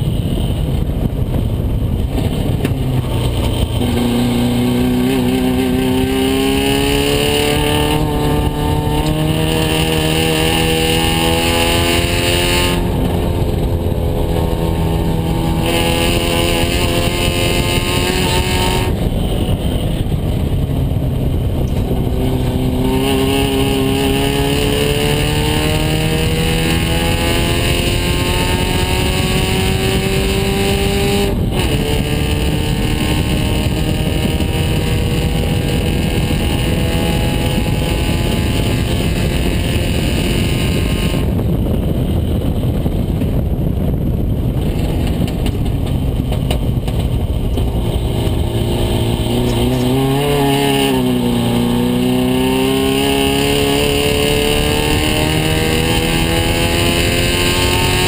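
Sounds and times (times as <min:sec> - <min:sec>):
wind rushing: 0:00.0 - 0:58.0
race car engine accelerating: 0:02.2 - 0:41.8, 0:46.4 - 0:58.0.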